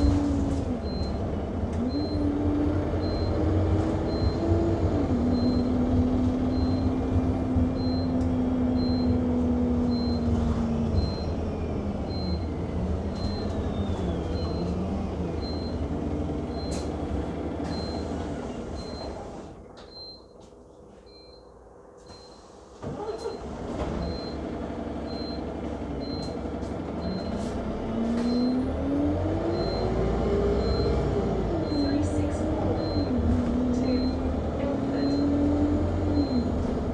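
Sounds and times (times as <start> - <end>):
bus engine and road noise: 0.0 - 36.9.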